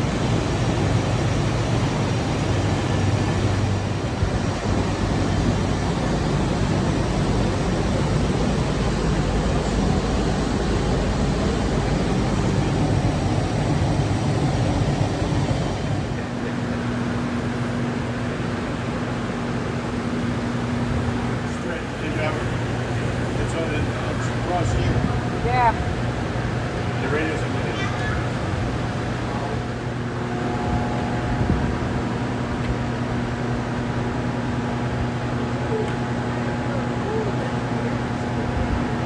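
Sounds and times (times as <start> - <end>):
machinery rumble: 0.0 - 39.0
steady hum: 0.0 - 39.0.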